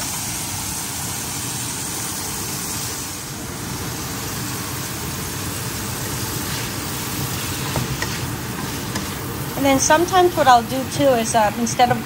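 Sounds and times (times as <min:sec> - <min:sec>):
tofu sizzling in hot oil: 0:00.1 - 0:12.0.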